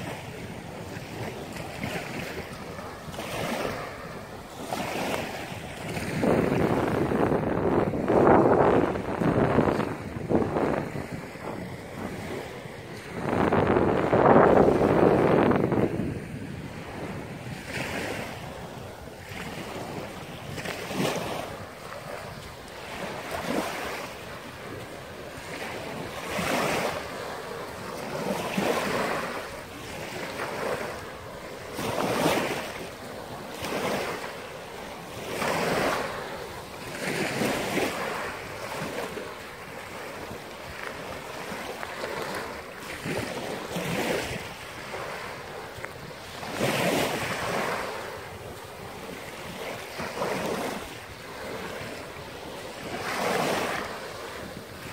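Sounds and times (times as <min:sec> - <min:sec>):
waves washing on pebbles: 0:00.0 - 0:54.9.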